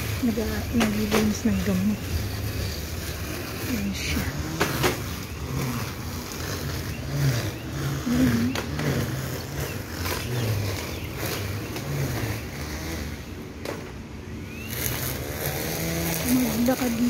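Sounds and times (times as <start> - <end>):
string trimmer motor revving: 0.0 - 17.0.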